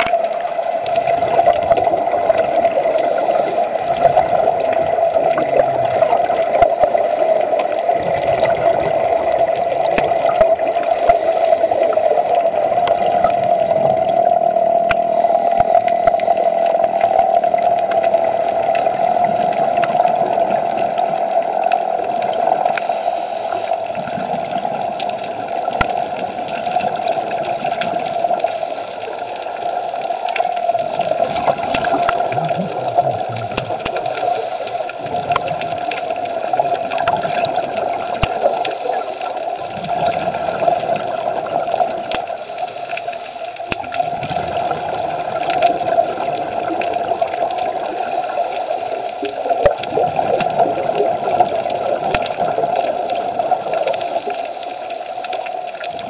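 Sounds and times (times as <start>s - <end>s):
faint clicks: 0.0s - 3.3s, 9.4s - 12.2s, 14.2s - 56.0s
gurgling water hiss: 0.0s - 56.0s
steady droning hum: 0.0s - 56.0s.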